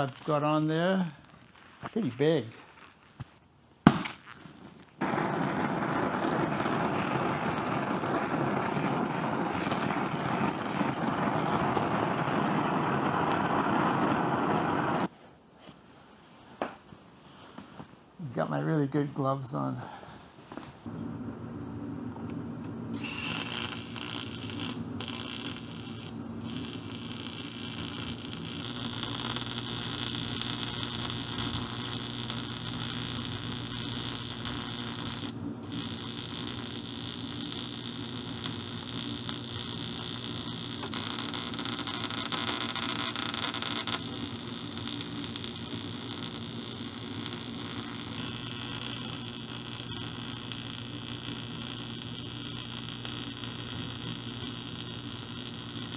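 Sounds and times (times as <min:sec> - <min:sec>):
welding arc humming and hissing: 0:00.0 - 0:02.6, 0:05.0 - 0:15.1, 0:22.9 - 0:55.9.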